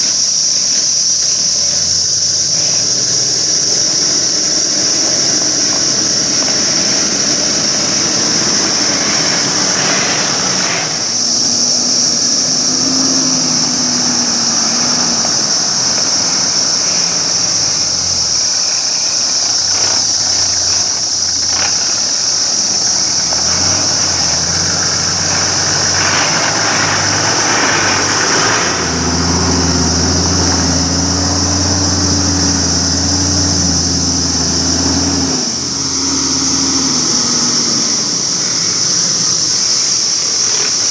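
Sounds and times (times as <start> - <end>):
cicadas droning: 0.0 - 40.9
diesel engine at low revs: 0.0 - 40.9.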